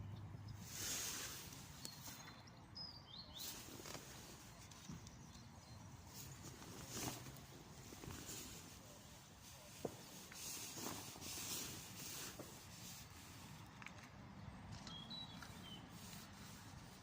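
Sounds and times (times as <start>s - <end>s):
rustling and handling noise: 0.6s - 2.6s, 3.3s - 17.0s.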